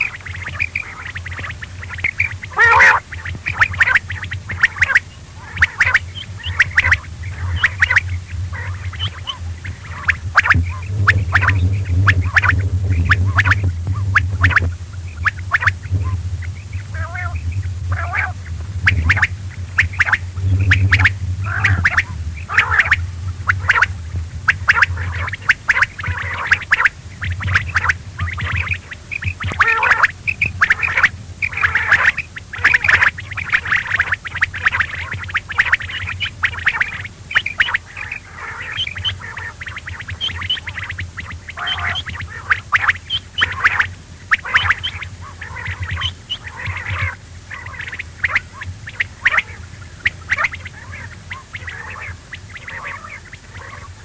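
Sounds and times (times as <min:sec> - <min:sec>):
quail calling: 0:00.0 - 0:54.0
steady low hum: 0:00.0 - 0:54.0.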